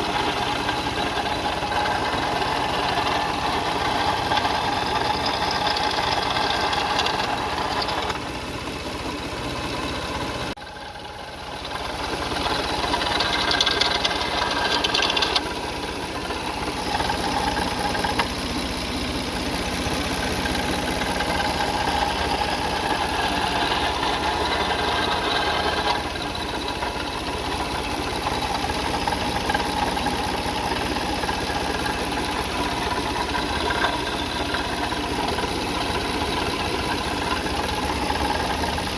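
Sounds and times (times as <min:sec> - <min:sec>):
car engine running with rattle: 0:00.0 - 0:38.9.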